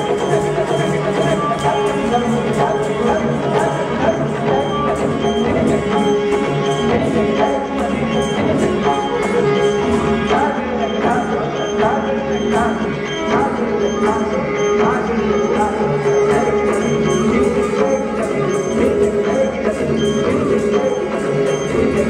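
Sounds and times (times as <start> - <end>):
drone: 0.0 - 22.0
drum and cymbal strokes: 0.0 - 22.0.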